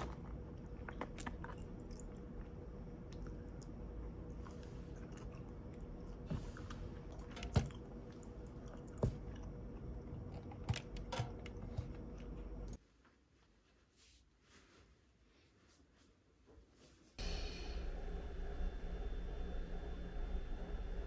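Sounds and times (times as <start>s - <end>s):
low hum with faint tone: 0.0s - 21.0s.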